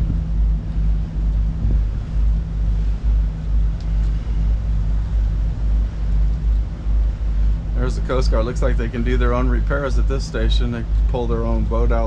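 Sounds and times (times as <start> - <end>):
boat engine running: 0.0 - 12.0
wind gusting on microphone: 0.0 - 12.0.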